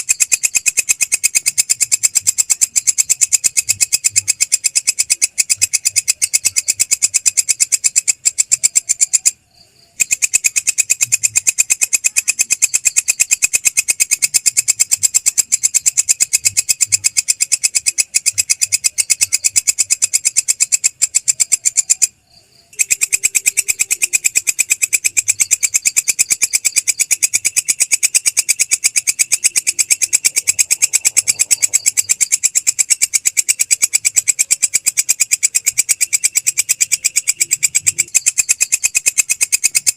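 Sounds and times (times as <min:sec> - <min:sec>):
insect stridulating: 0:00.0 - 0:39.9.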